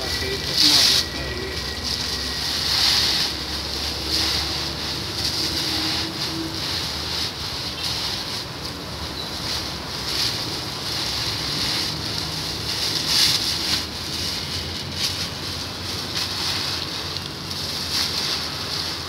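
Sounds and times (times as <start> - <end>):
plastic wrappers crinkling: 0.0 - 19.0.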